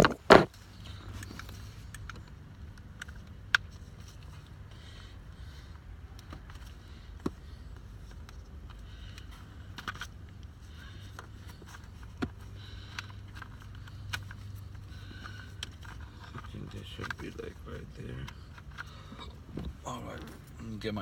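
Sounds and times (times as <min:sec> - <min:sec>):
hands clicking on plastic parts: 0:00.0 - 0:20.3
steady low hum: 0:00.0 - 0:21.0.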